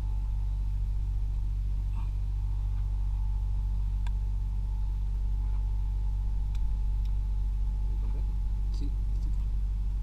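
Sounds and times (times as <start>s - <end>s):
faint high hum: 0.0s - 10.0s
steady low rumble: 0.0s - 10.0s.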